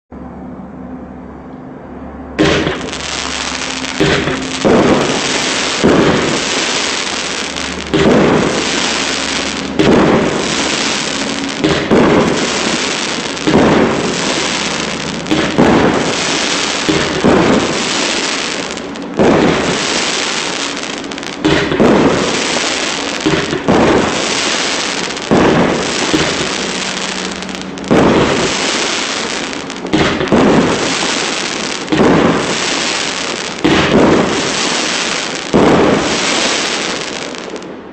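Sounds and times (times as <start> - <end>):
firework bursts: 2.4 - 37.9
firework sparking tail rush: 2.4 - 37.9.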